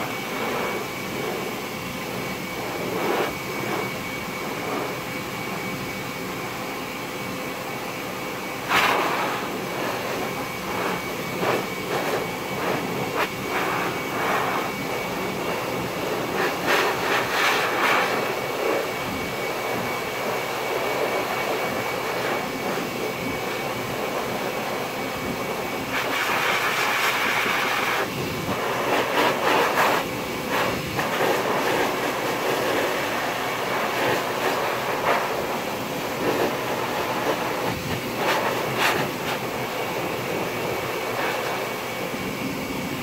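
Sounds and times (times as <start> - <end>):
blower rushing air: 0.0 - 43.0.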